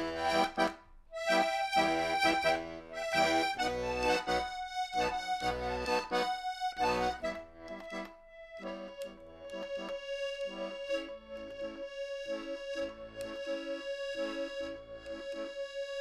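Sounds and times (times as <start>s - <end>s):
accordion chords: 0.0s - 16.0s.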